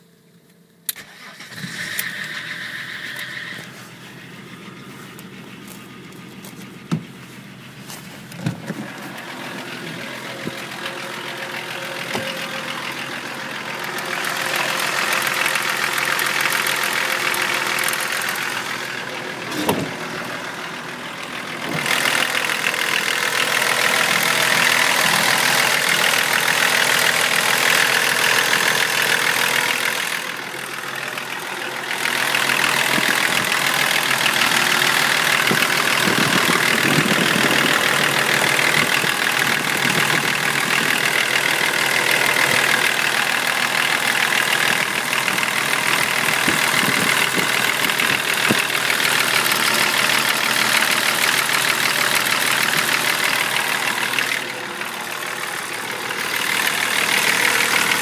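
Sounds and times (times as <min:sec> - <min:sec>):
diesel engine idling with rattle: 0:00.0 - 0:58.0.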